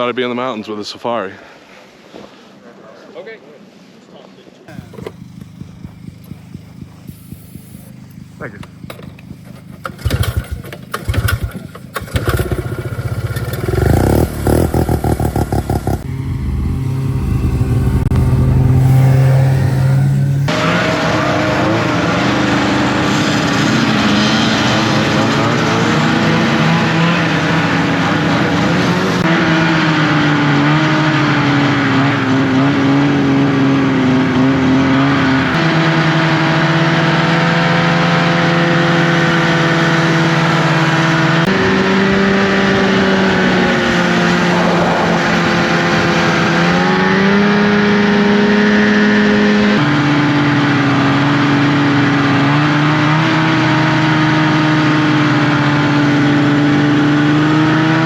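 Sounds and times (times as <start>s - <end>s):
snowmobile engine running: 4.7s - 58.0s.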